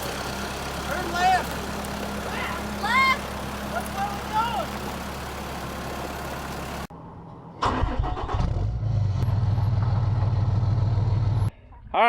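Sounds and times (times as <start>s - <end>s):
engine starting and idling: 0.0s - 6.9s, 7.6s - 11.5s
vehicle engine and road noise: 0.0s - 11.5s.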